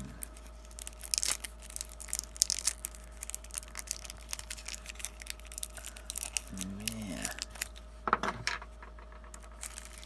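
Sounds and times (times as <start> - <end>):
shrink wrap crinkling and tearing: 0.0 - 7.9, 9.3 - 10.0.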